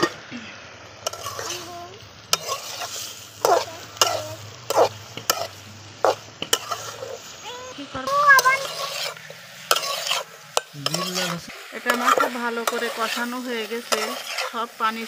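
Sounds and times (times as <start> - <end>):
vegetables sizzling: 0.0 - 15.0
metal spatula scraping a pan: 0.9 - 7.4, 8.0 - 15.0.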